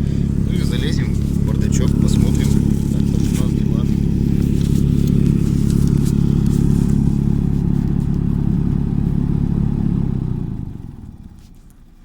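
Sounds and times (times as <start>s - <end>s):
car heater fan humming: 0.0s - 12.0s.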